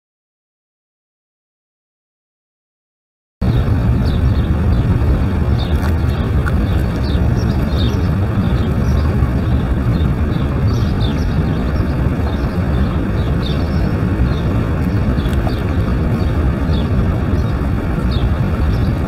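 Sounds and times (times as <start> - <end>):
small birds chirping: 3.4 - 19.0
river water rushing over rapids: 3.5 - 19.0.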